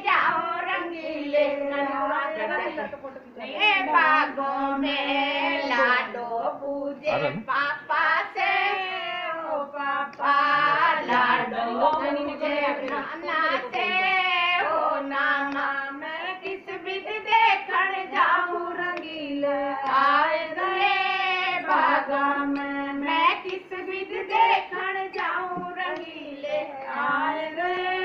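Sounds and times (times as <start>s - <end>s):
women singing unaccompanied: 0.0s - 28.0s.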